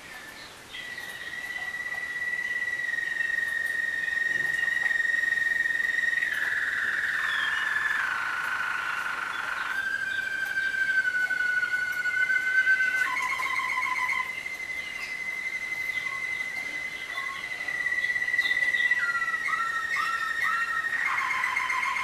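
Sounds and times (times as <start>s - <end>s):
canaries singing: 0.0s - 22.0s.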